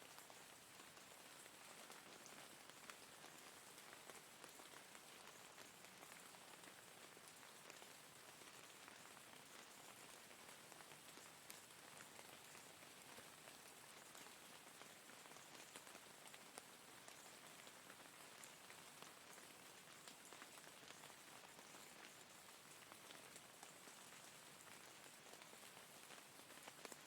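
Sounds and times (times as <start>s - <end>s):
faint steady rain: 0.0s - 27.0s.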